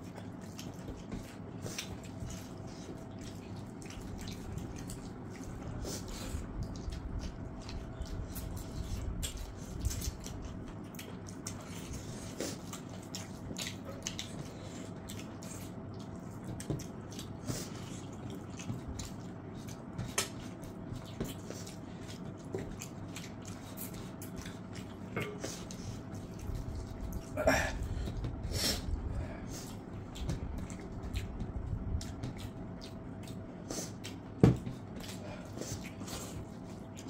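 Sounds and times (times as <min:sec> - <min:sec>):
wet chewing and lip-smacking: 0:00.0 - 0:37.0.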